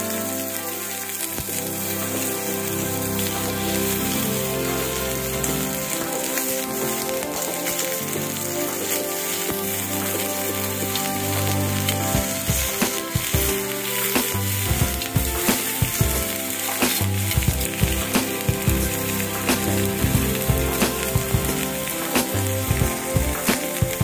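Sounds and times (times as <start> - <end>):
meat sizzling on grill plate: 0.0 - 24.0.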